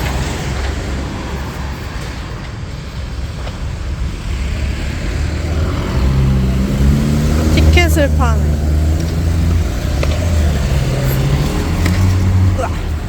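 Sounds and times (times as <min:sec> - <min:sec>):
engine note: 0:00.0 - 0:13.0
rumble of passing vehicles: 0:00.0 - 0:13.0.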